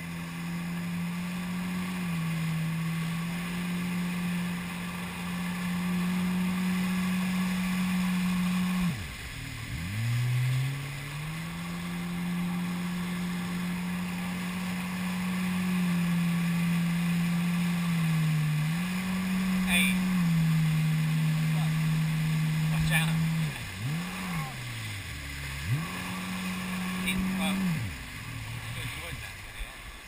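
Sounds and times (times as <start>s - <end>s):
jet ski engine running: 0.0s - 30.0s.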